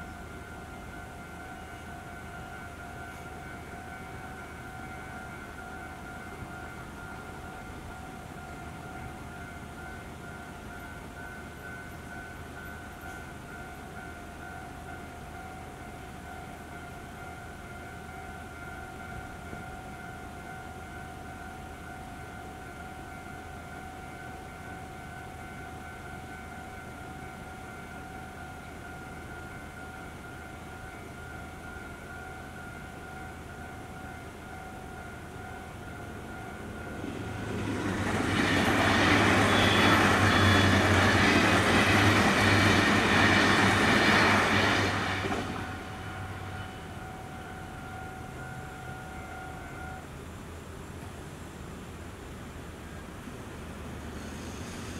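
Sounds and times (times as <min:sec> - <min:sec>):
level-crossing alarm ringing: 0:00.0 - 0:50.1
diesel train engines: 0:00.0 - 0:54.9
train wheels on rails: 0:00.0 - 0:54.9.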